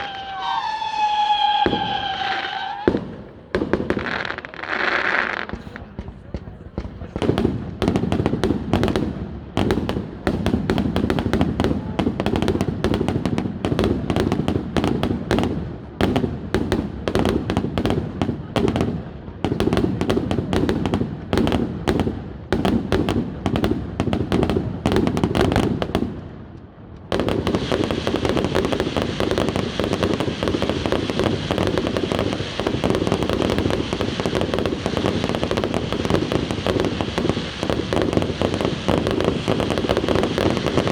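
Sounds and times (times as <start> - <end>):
fireworks bangs and crackle: 0.0 - 40.9.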